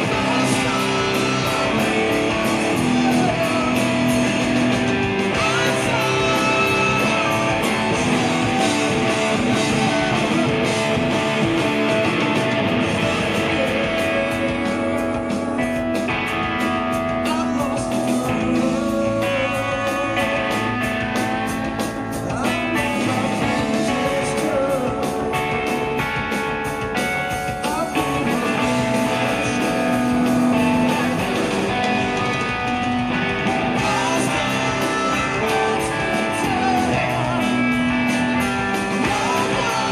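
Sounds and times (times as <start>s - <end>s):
man singing: 0.0s - 12.1s, 12.8s - 26.1s, 27.4s - 39.9s
drums: 0.0s - 39.9s
electric guitar: 0.0s - 39.9s.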